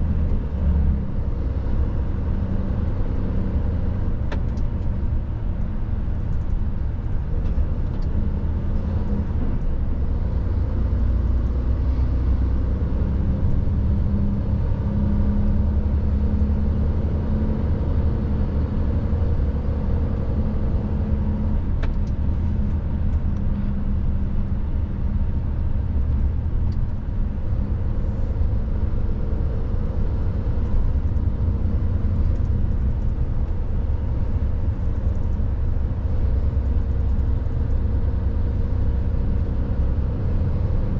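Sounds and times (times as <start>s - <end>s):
road noise: 0.0s - 40.9s
truck diesel engine droning: 0.0s - 40.9s.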